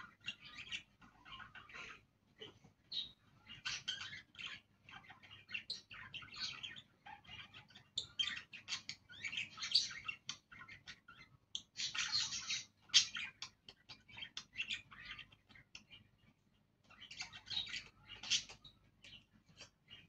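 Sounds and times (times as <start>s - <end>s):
budgerigars chattering: 0.0s - 2.1s, 2.9s - 16.1s, 16.9s - 20.0s.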